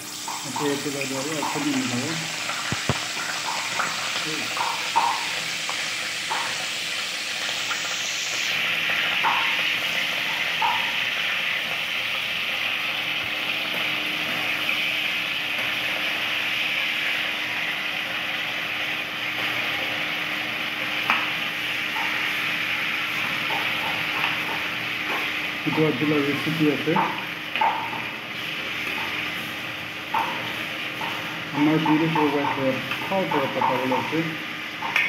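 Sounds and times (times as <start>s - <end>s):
meat sizzling in a pan: 0.0s - 35.0s.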